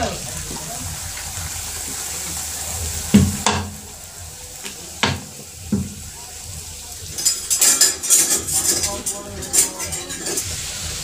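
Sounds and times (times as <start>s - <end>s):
bread sizzling in hot oil: 0.0s - 11.0s
loud crackling of frying: 0.0s - 11.0s.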